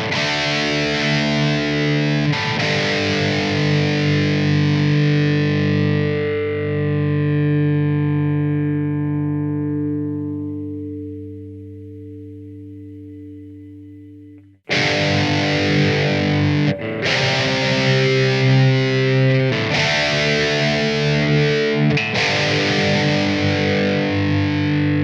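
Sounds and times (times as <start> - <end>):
distorted electric guitar chords: 0.0 - 25.0.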